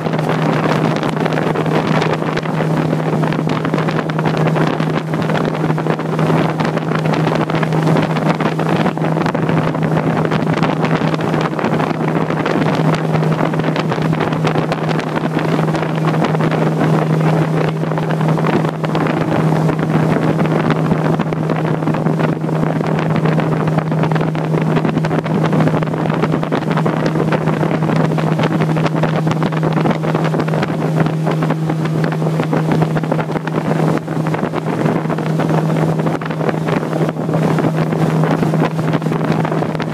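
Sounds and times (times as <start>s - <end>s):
motorboat engine droning: 0.0s - 39.9s
wind buffeting microphone: 0.0s - 39.9s.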